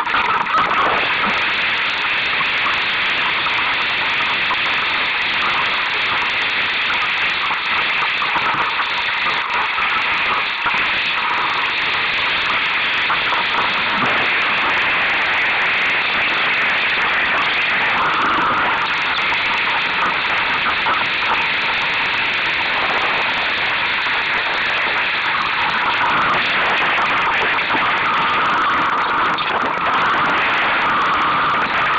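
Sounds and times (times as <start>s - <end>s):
wind and water rushing: 0.0s - 31.9s.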